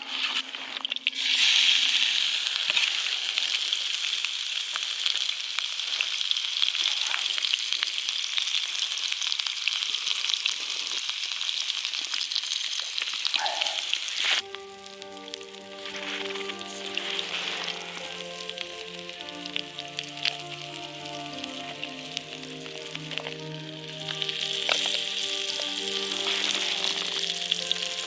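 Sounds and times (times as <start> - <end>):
fish sizzling in a frying pan: 0.2 - 28.0.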